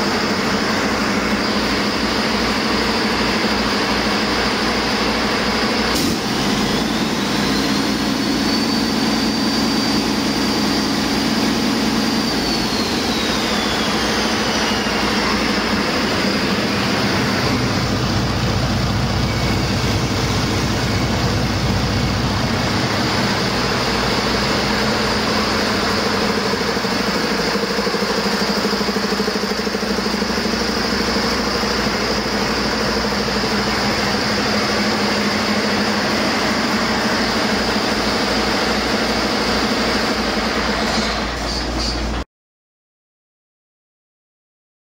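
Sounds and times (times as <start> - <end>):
diesel engine running: 0.0 - 42.2
high whine: 0.0 - 42.2.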